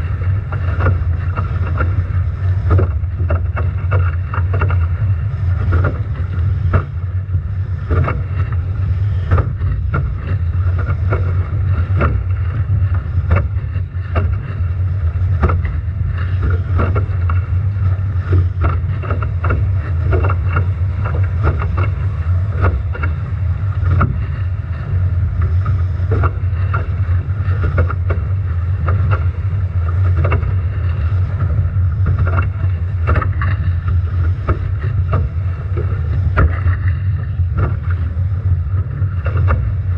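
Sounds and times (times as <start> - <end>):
waves slapping against hull: 0.0 - 39.9
wind buffeting microphone: 0.0 - 39.9.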